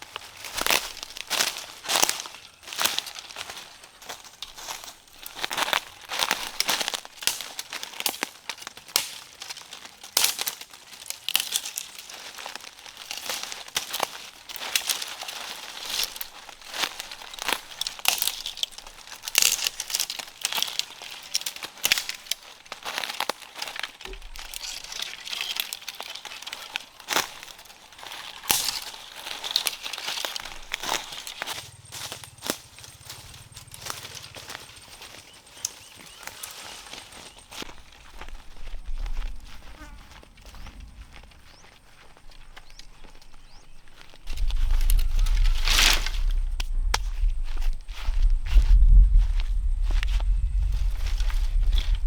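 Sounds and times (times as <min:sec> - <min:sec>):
crinkling and crackling snaps: 0:00.0 - 0:52.0.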